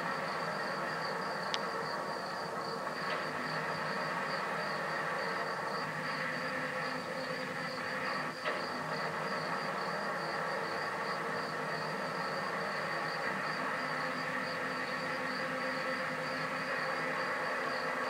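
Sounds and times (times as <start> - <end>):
freight train rolling by: 0.0 - 18.0
high insect chirping: 0.0 - 18.0.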